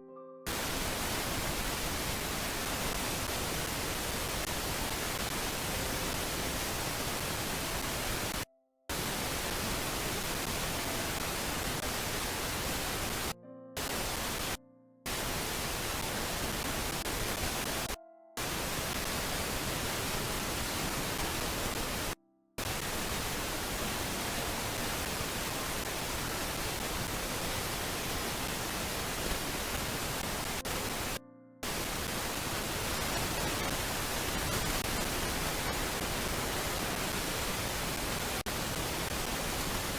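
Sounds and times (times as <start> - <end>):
steady rushing hiss: 0.5 - 39.9.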